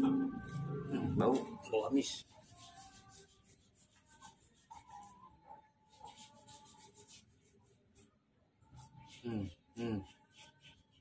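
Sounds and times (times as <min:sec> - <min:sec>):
scratchy rasping: 0:01.7 - 0:11.0.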